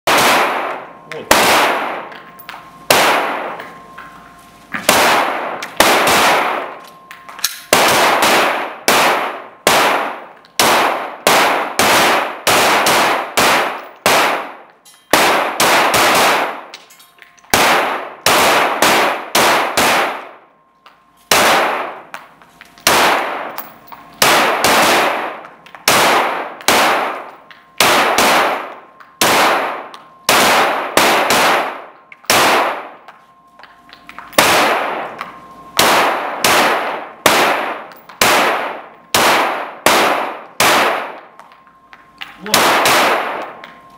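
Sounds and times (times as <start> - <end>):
pistol shots echoing indoors: 0.1 - 3.7, 4.9 - 16.8, 17.5 - 20.5, 21.3 - 22.2, 22.8 - 33.0, 34.3 - 43.8.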